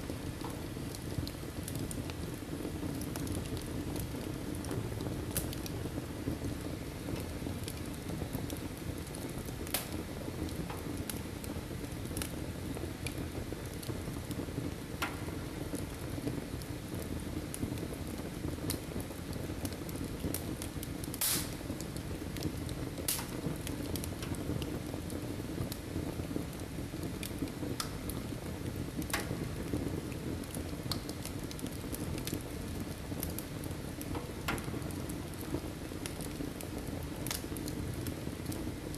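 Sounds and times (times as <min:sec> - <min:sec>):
fire crackles and pops: 0:00.0 - 0:38.9
wood fire burning: 0:00.0 - 0:38.9.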